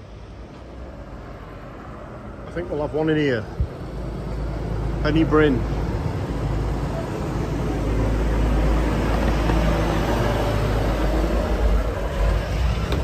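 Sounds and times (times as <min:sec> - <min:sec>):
car passing: 0:00.0 - 0:13.0
low traffic rumble: 0:00.0 - 0:13.0.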